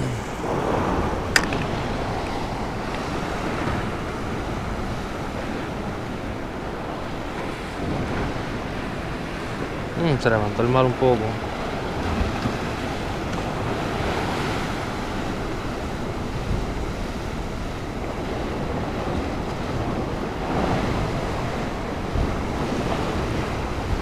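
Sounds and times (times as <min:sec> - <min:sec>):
ocean surf washing: 0:00.0 - 0:24.0
wind buffeting microphone: 0:00.0 - 0:24.0.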